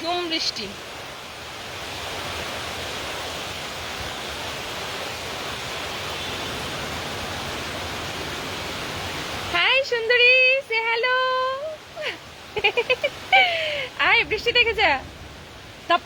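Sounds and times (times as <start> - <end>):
torrential rain falling: 0.0 - 16.0.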